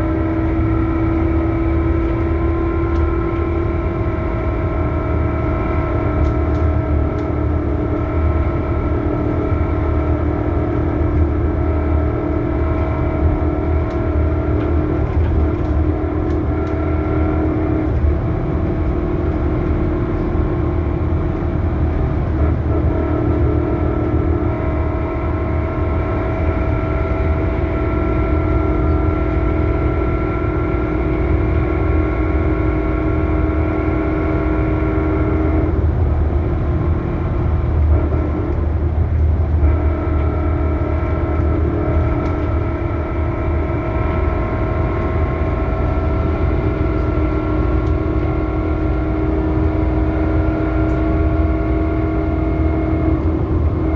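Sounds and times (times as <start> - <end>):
bus engine drone: 0.0 - 53.9
gearbox high whine: 0.0 - 53.9.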